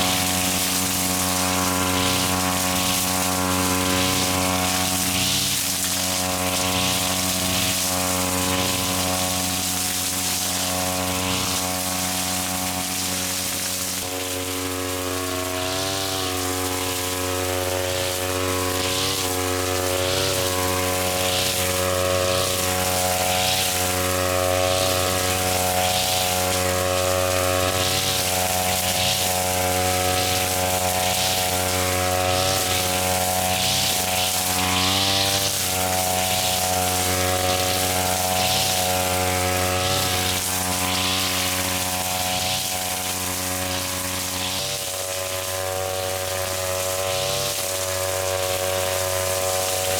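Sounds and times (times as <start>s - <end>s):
small petrol engine running: 0.0s - 49.9s
swish of cutting grass: 0.0s - 49.9s.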